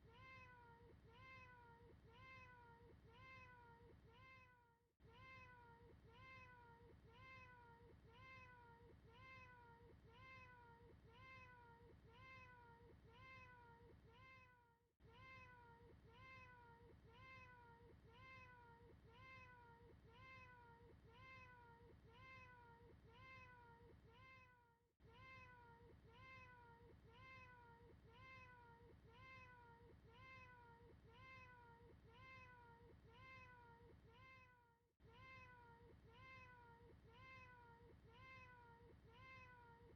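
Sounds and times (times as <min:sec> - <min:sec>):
faint cat meow: 0:00.0 - 0:39.8.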